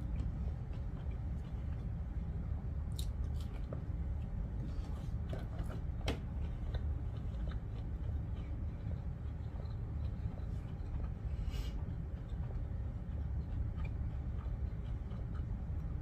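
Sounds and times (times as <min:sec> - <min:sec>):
chewing crispy food: 0:00.0 - 0:16.0
steady low hum: 0:00.0 - 0:16.0.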